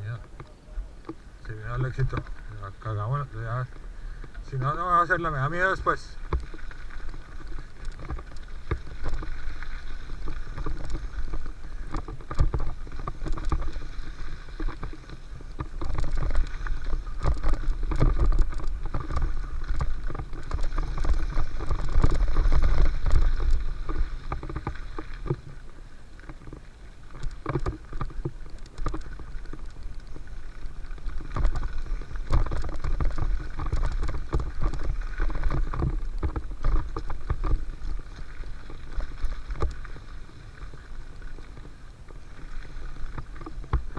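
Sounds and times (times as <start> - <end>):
bike rattling over bumps: 0.0 - 43.9
bike tyre noise: 0.0 - 43.9
wind rumbling on microphone: 0.0 - 43.9.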